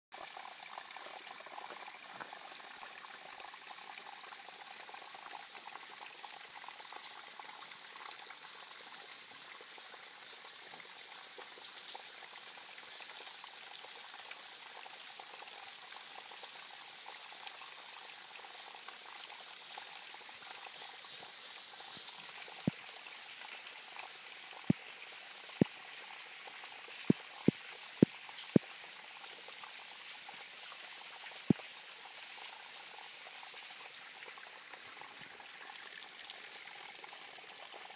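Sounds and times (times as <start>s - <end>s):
water dripping and trickling: 0.2s - 37.9s.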